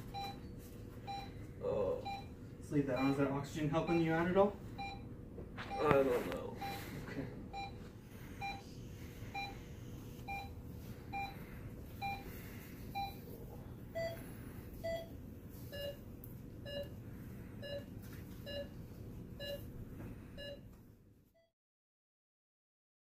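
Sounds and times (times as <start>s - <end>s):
patient monitor beeping: 0.0s - 20.7s
faint room hum: 0.0s - 21.4s.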